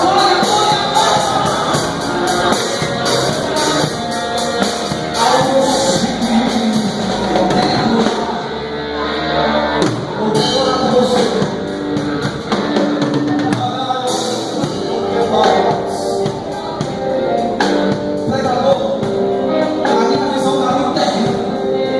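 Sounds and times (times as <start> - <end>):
drum kit: 0.0 - 21.9
guitar: 0.0 - 21.9
person singing: 0.0 - 21.9.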